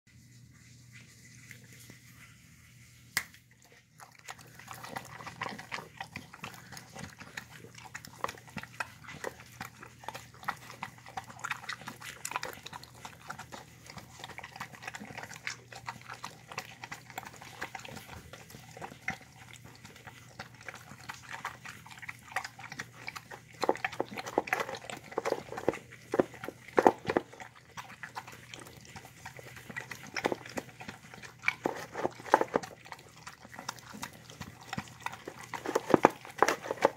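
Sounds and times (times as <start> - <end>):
dog chewing wetly: 3.2 - 36.9.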